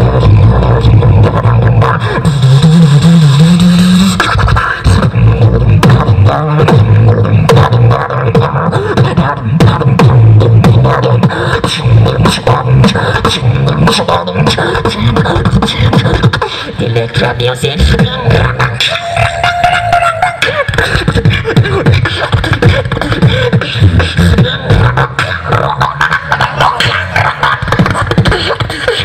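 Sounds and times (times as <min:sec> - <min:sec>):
beatboxing through a microphone: 0:00.0 - 0:29.0.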